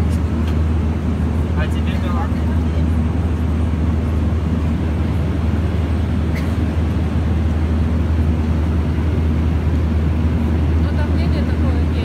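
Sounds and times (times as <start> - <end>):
jet cabin drone: 0.0 - 12.0.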